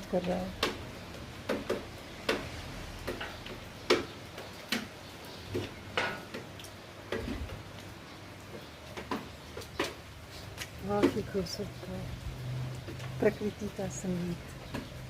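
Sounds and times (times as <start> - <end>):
light rain hiss: 0.0 - 15.0
water dripping on hard surface: 0.0 - 15.0.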